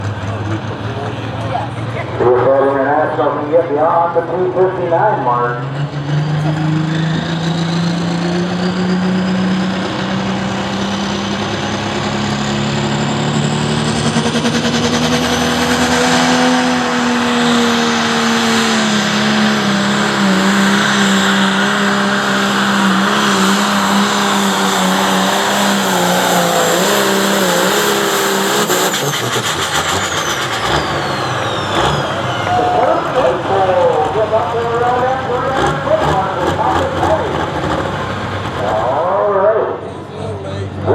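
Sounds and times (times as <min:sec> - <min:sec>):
tractor engine at full power: 0:00.0 - 0:40.9.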